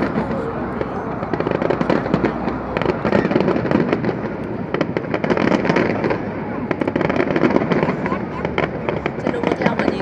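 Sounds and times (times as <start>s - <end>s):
fireworks crackling pops: 0.0s - 10.0s.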